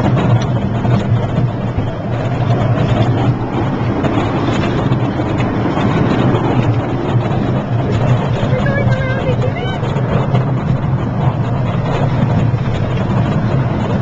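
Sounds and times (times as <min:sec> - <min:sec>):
miniature train engine drone: 0:00.0 - 0:14.0
train rumble and rattle: 0:00.0 - 0:14.0.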